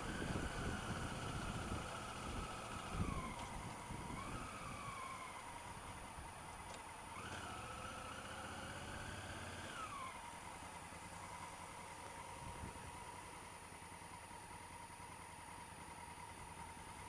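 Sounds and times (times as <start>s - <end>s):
motorcycle engine whine: 0.0s - 17.0s.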